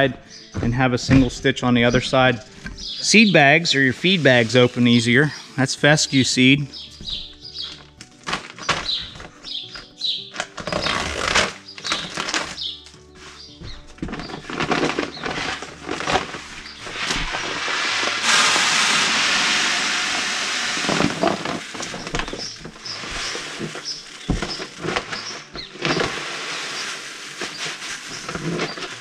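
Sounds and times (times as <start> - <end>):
paper bag crinkling: 1.2 - 29.0
seeds pouring into plastic bucket: 1.8 - 6.7, 10.1 - 29.0.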